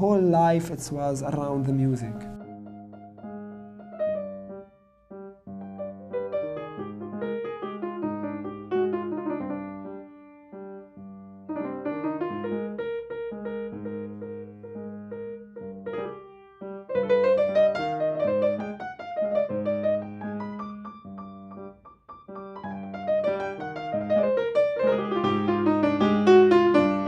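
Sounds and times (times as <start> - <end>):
piano playing: 0.0 - 27.0.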